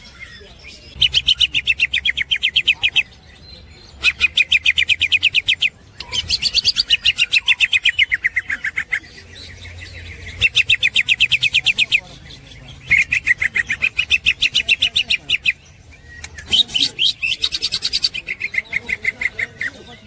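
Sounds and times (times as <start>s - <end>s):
bird singing rapid chattering song: 0.0s - 20.0s.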